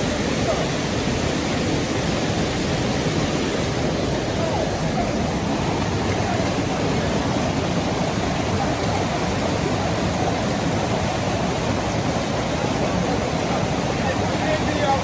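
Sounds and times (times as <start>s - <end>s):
water rushing over falls: 0.0s - 15.0s.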